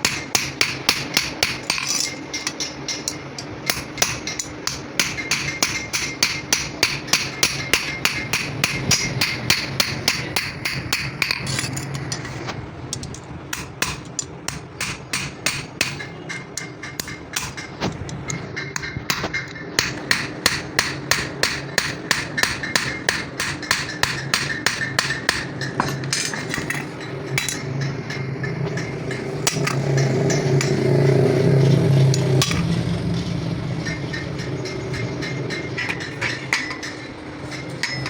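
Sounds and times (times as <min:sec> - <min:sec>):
hammer on metal: 0:00.0 - 0:12.5, 0:13.5 - 0:38.0
low mechanical hum: 0:00.0 - 0:38.0.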